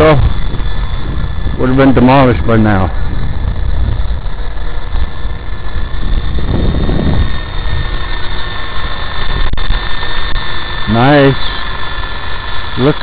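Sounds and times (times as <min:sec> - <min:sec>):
toy helicopter motor whine: 0:00.0 - 0:13.0
wind buffeting microphone: 0:00.0 - 0:13.0.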